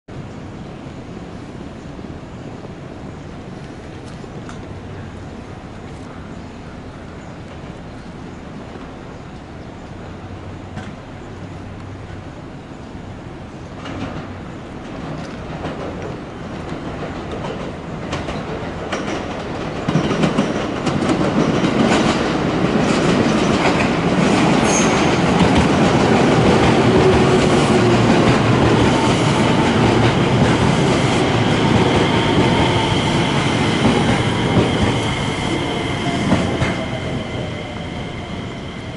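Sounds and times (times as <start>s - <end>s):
electric train passing: 7.4s - 38.9s.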